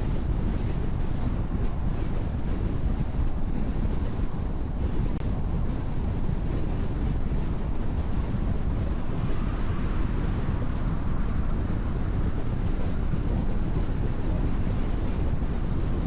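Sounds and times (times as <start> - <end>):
low road rumble: 0.7 - 16.0.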